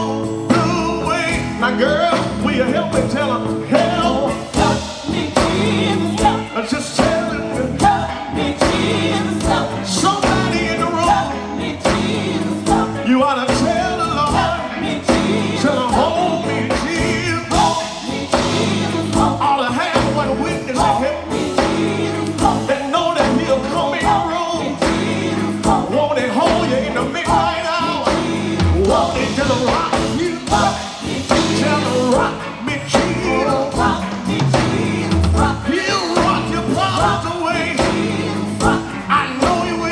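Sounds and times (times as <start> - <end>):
gospel quartet singing in harmony: 0.0 - 39.9
live band playing: 0.0 - 39.9.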